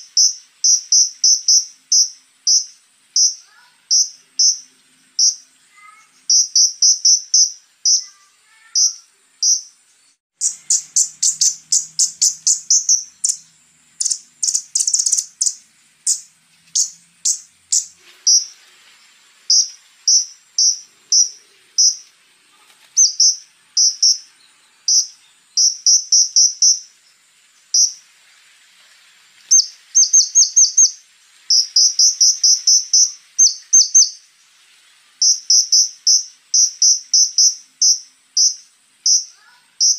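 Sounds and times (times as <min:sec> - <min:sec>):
songbird singing sharp notes: 0:00.0 - 0:18.6, 0:19.5 - 0:22.1, 0:23.0 - 0:28.0, 0:29.5 - 0:34.2, 0:35.2 - 0:39.9.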